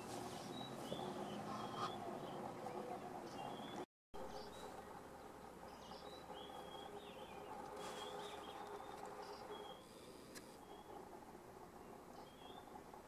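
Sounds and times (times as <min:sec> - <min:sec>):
faint outdoor background noise: 0:00.0 - 0:13.0
small birds chirping: 0:00.0 - 0:13.0.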